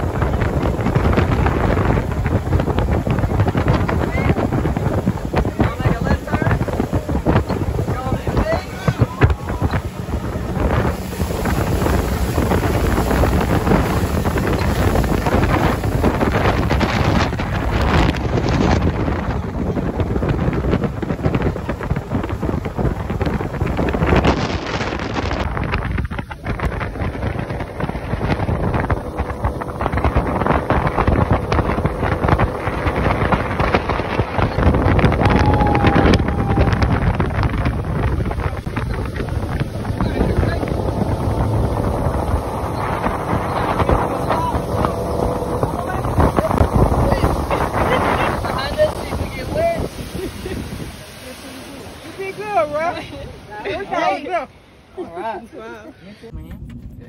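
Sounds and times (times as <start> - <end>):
water rushing: 0.0 - 56.4
boat engine: 0.0 - 57.0
wind buffeting microphone: 0.0 - 57.0.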